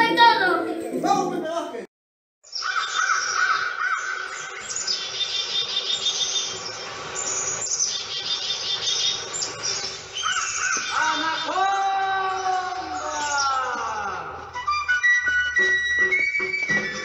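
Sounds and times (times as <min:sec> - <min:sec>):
birds chirping and calling: 0:02.5 - 0:17.0.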